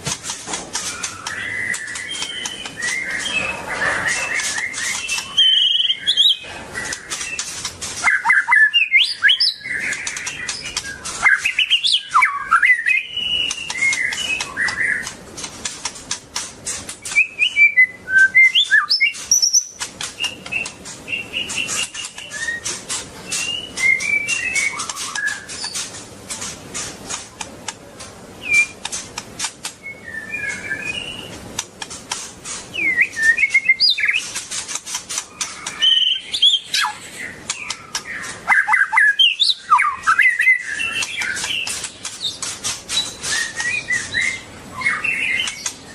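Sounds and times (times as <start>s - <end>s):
bird singing whistled notes: 0.8s - 15.1s, 17.0s - 25.8s, 28.4s - 28.8s, 29.8s - 31.3s, 32.7s - 34.4s, 35.3s - 45.9s.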